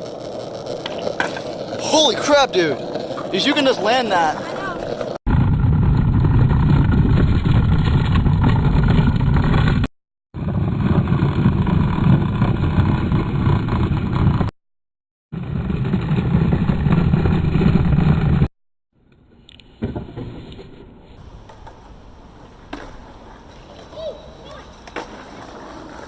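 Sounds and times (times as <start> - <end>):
skateboard wheels rolling on pavement: 0.0 - 14.5, 15.4 - 18.5, 19.1 - 26.0.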